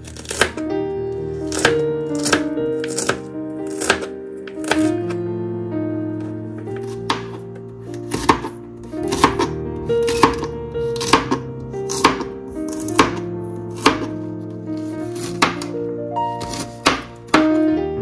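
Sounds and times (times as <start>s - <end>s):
background music with sustained notes: 0.0s - 18.0s
knife chopping on plastic board: 0.1s - 0.6s, 1.5s - 5.2s, 6.7s - 15.7s, 16.4s - 17.7s.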